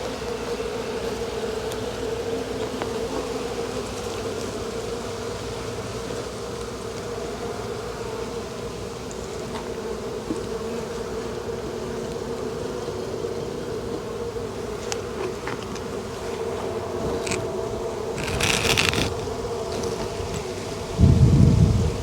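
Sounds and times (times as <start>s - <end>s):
honeybee swarm buzzing: 0.0s - 22.0s.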